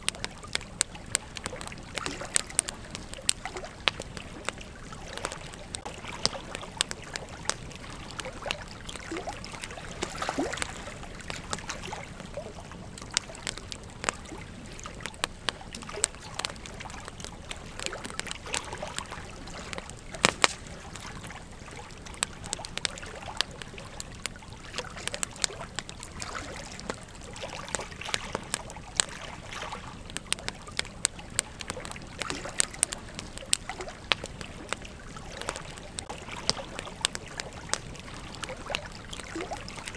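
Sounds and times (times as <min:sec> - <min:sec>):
campfire crackling and popping: 0:00.0 - 0:39.9
low hiss of fire: 0:00.0 - 0:39.9.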